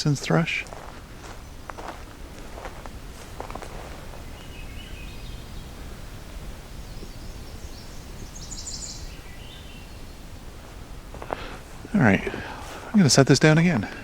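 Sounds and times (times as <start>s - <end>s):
low outdoor rumble: 0.0s - 14.0s
rustles: 0.0s - 14.0s.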